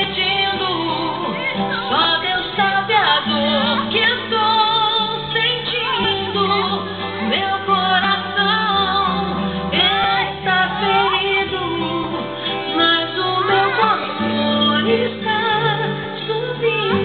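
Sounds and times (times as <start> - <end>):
woman singing slow song: 0.0 - 17.0.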